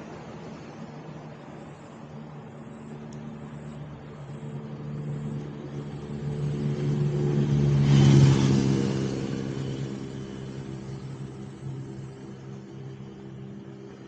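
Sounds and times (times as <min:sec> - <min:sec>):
low engine hum: 0:00.0 - 0:14.0
vehicle passing close by: 0:00.0 - 0:14.0.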